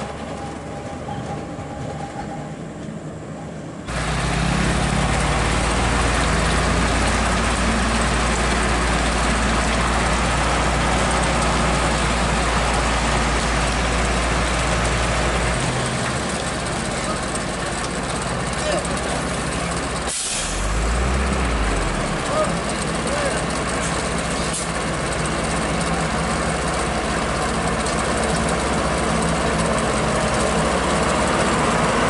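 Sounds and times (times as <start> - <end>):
heavy truck engine running: 0.0 - 32.0.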